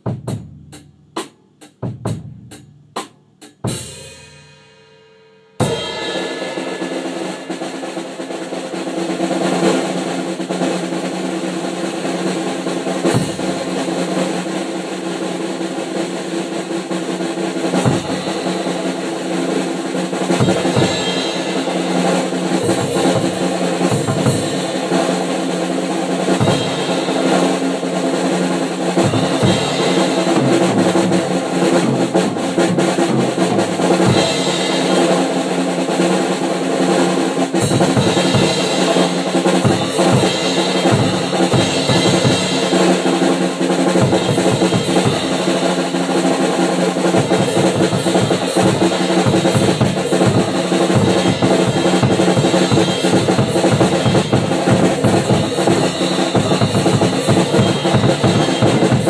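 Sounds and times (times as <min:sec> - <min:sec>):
drum kit rolls and fills: 0:00.0 - 0:04.5, 0:05.6 - 0:59.0.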